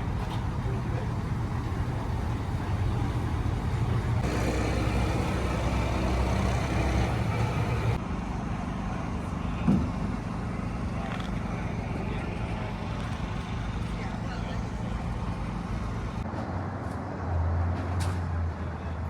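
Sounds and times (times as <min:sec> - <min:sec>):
car engine rumbling: 0:00.0 - 0:16.3.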